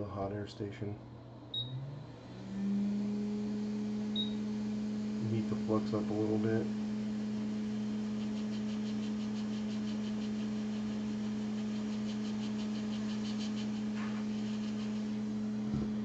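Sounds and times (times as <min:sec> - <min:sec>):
hot air station humming: 0:02.0 - 0:16.0.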